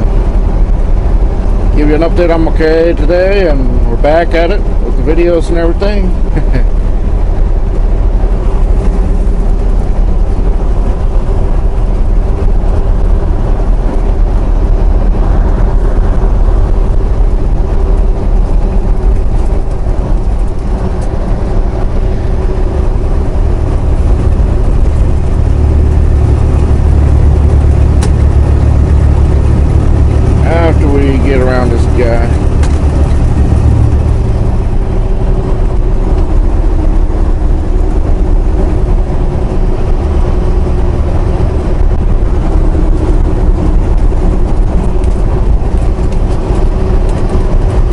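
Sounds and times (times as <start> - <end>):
road noise: 0.0 - 47.9
truck diesel engine drone: 0.0 - 47.9.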